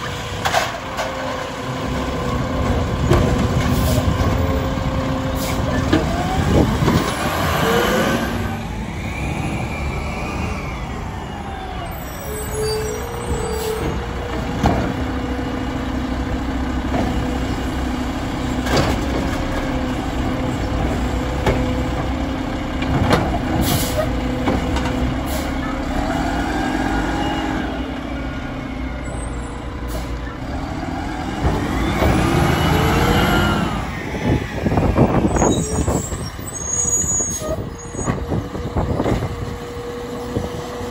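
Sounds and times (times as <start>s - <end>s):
truck engine revving: 0.0s - 11.8s, 12.4s - 40.9s.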